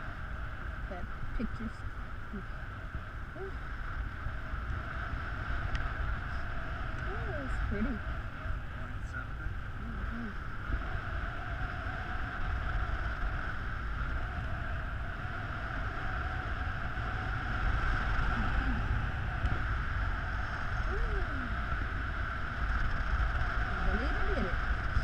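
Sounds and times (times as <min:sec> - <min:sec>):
constant high tone: 0:00.0 - 0:22.1
wind buffeting microphone: 0:00.0 - 0:25.0.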